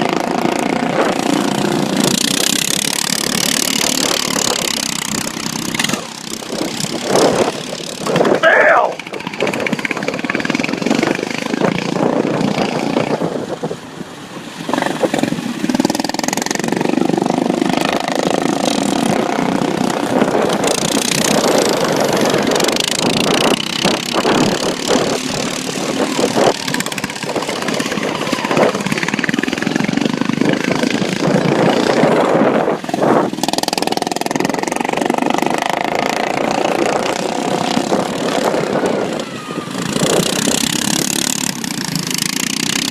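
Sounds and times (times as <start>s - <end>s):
racing lawn mower engines: 0.0s - 42.9s.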